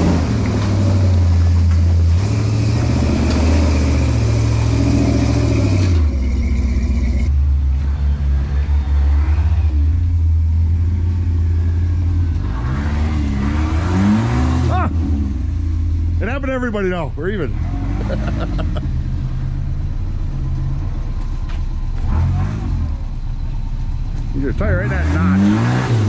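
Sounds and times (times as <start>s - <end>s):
off-road vehicle engine revving: 0.0s - 23.5s, 24.1s - 26.0s.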